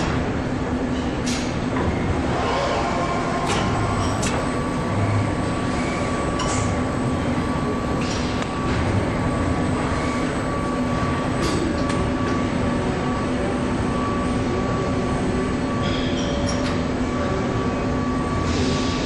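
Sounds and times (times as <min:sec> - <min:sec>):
machinery hum with whine: 0:00.0 - 0:19.0.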